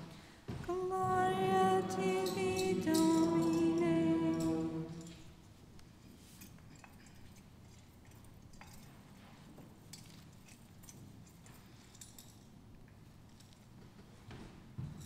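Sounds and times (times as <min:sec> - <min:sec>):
faint clinks and rustles: 0:00.0 - 0:15.0
low room hum: 0:00.0 - 0:15.0.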